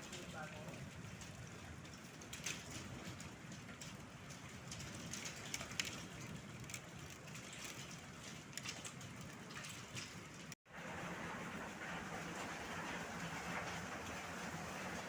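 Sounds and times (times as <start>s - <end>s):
hailstones ticking: 0.0s - 15.0s
wind and rain rushing: 0.0s - 15.0s.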